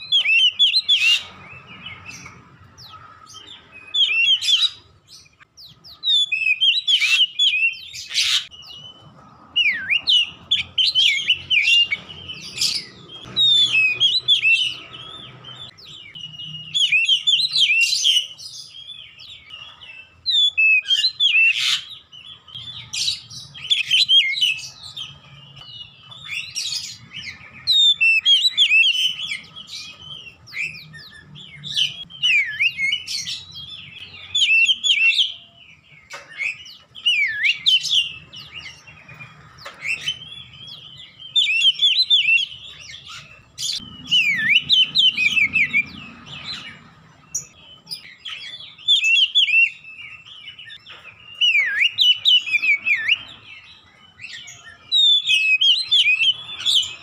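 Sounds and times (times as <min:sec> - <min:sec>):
bird singing whistled phrases: 0:00.0 - 0:46.8, 0:47.4 - 0:57.0.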